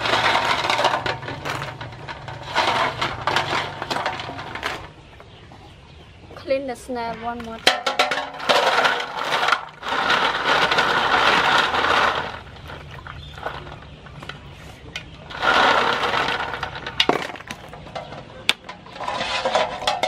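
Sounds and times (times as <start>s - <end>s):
snail shells clattering in metal basin: 0.0s - 5.0s, 7.3s - 14.4s, 15.3s - 20.0s.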